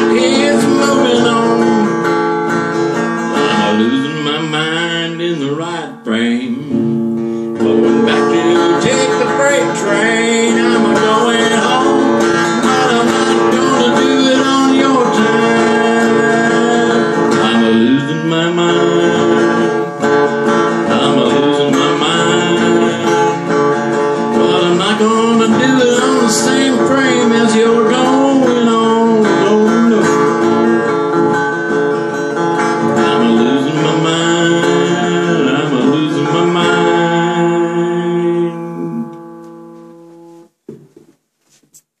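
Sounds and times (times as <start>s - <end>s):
acoustic blues guitar: 0.0s - 41.9s.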